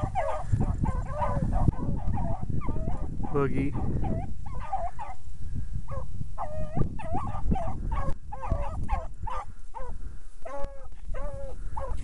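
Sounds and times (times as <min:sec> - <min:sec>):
hounds baying: 0:00.0 - 0:05.2, 0:05.9 - 0:12.0.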